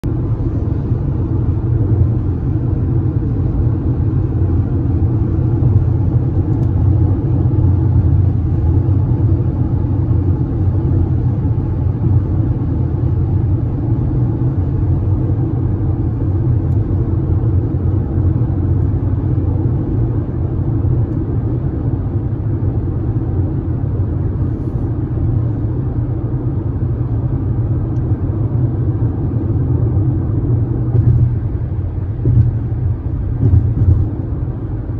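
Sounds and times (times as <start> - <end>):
car cabin road rumble: 0.0 - 34.9.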